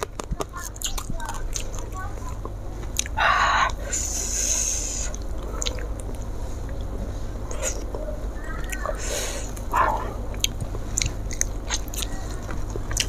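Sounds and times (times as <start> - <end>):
mouth sounds of eating: 0.0 - 13.0.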